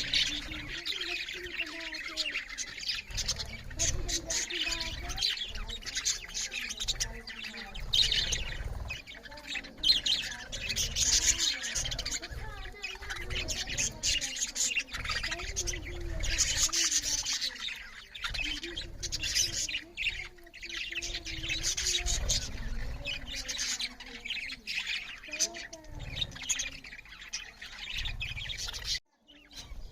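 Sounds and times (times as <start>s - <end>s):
budgerigars chirping and chattering: 0.0s - 29.9s.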